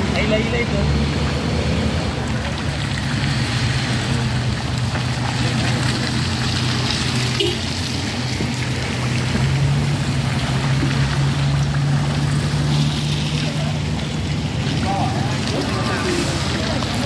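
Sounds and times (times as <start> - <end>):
car engines humming at low speed: 0.0 - 17.0.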